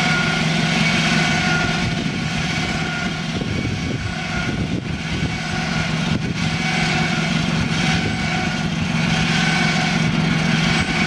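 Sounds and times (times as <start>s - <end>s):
small winch engine running: 0.0s - 11.0s.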